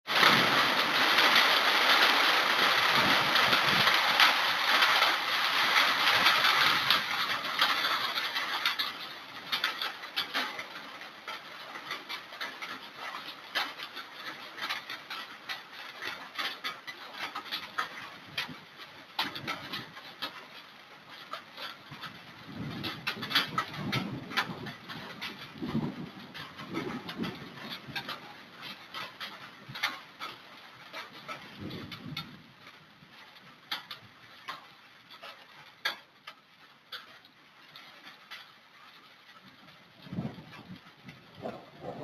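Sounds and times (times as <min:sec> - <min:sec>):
rain falling: 0:00.1 - 0:42.0.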